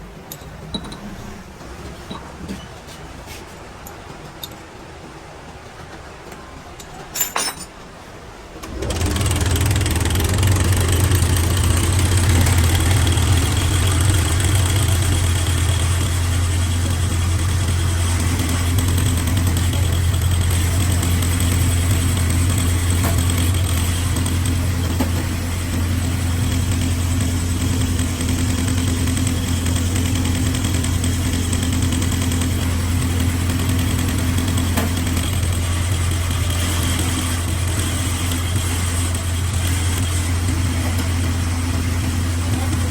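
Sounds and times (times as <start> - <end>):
diesel truck engine starting and idling: 8.6 - 42.9.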